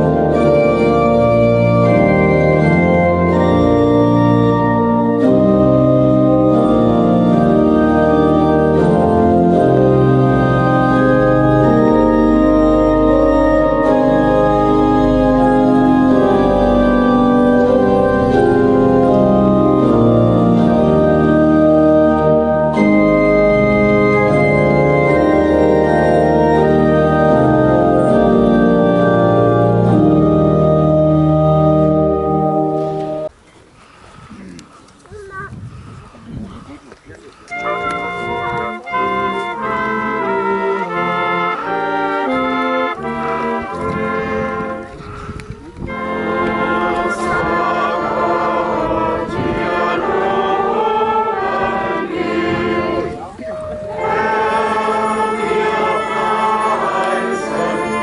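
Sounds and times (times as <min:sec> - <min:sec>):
organ playing held chords: 0:00.0 - 0:33.3, 0:37.3 - 0:58.0.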